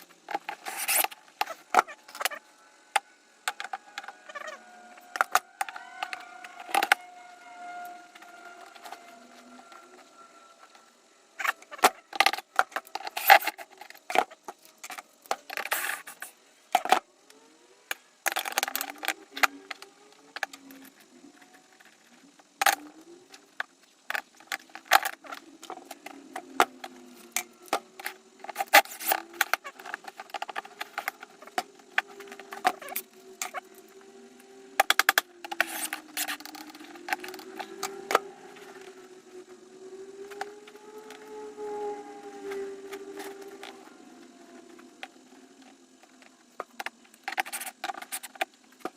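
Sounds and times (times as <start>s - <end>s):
faint wavering hum: 0.0s - 48.9s.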